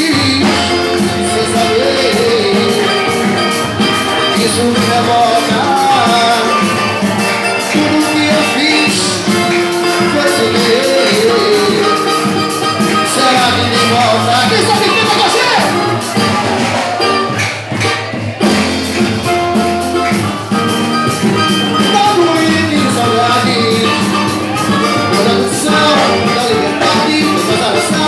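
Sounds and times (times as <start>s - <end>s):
live band playing: 0.0s - 28.0s.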